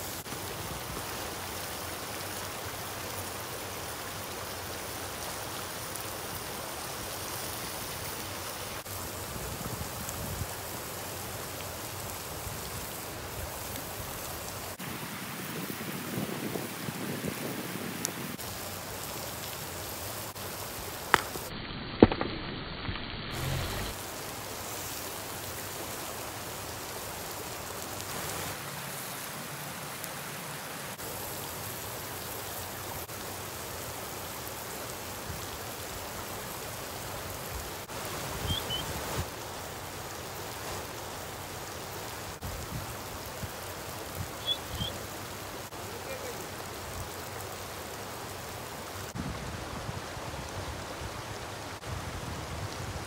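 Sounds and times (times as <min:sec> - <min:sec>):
flowing water rushing: 0:00.0 - 0:21.5, 0:23.3 - 0:53.0.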